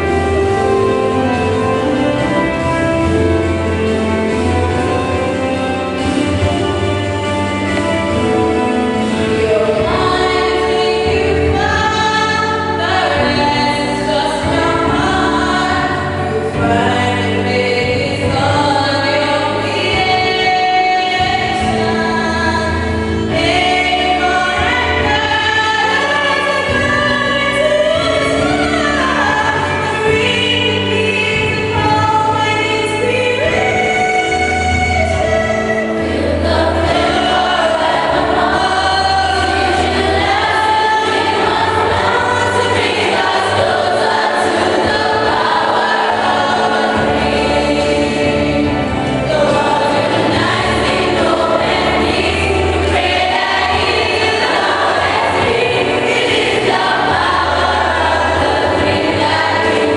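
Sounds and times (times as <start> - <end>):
low accompaniment notes: 0.0 - 59.9
choir singing: 3.7 - 59.9.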